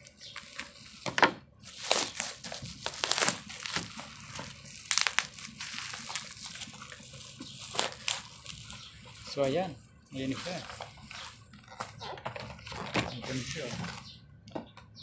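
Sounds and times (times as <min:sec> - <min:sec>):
plastic packaging crinkling and tearing: 0:00.0 - 0:14.1.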